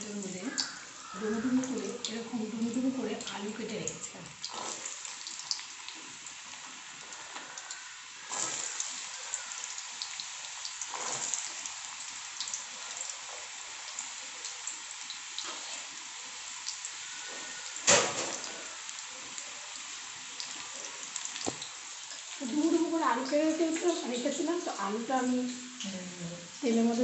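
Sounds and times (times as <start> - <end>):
potatoes sizzling in hot oil: 0.0 - 27.0.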